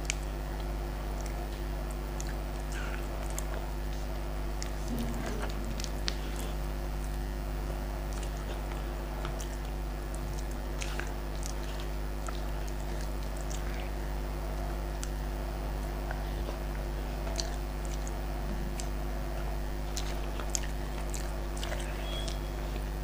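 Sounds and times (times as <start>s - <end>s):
low hum: 0.0s - 23.0s
soft chewing: 0.0s - 23.0s.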